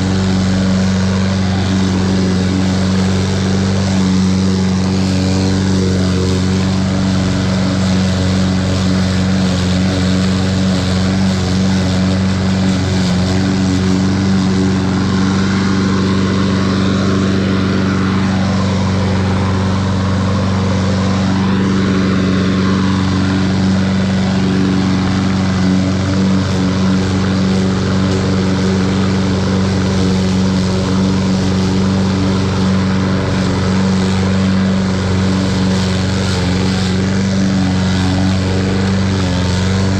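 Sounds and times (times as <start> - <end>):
lawn mower engine mowing grass: 0.0 - 39.9.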